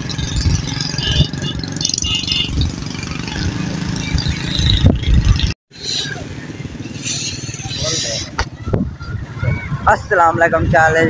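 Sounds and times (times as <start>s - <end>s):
wind on microphone: 0.0s - 1.6s, 2.2s - 11.0s
vehicle road noise: 0.0s - 11.0s.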